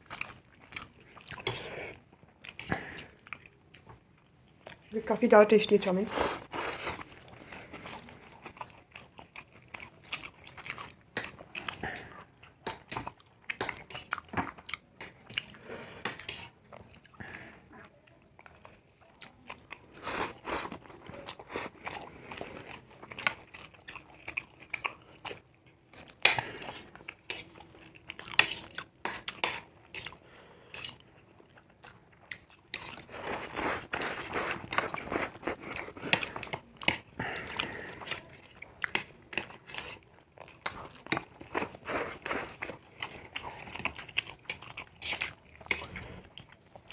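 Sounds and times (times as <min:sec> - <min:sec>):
people chewing noodles: 0:00.0 - 0:05.0, 0:05.9 - 0:46.9.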